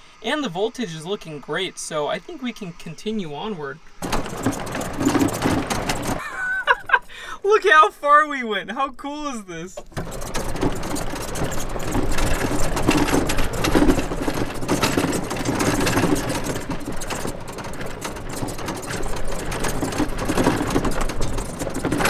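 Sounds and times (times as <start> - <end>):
golf cart rattling over gravel: 0.3 - 7.0, 9.8 - 22.0.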